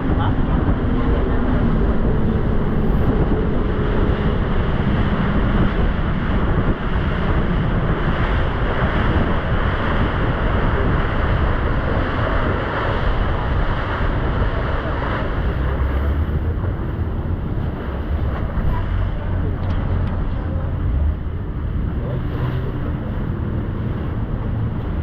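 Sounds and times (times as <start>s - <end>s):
boat engine and water rushing: 0.0s - 25.0s
wind buffeting microphone: 0.0s - 25.0s.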